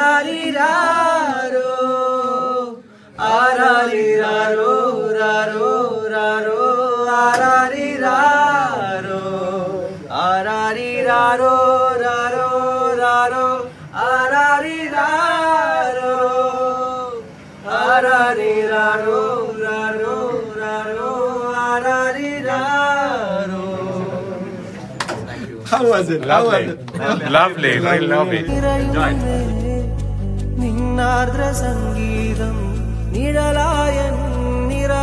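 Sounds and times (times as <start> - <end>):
man singing unaccompanied: 0.0 - 25.0, 27.6 - 35.0.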